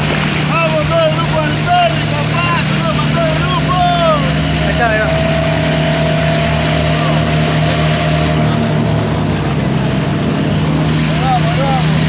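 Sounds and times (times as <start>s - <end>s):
outboard motor running: 0.0s - 12.0s
water rushing against hull: 0.0s - 12.0s
steady higher tone: 1.1s - 11.1s.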